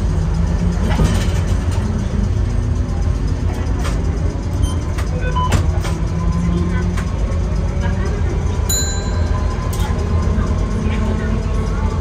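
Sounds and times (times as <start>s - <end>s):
streetcar rumbling on rails: 0.0s - 12.0s.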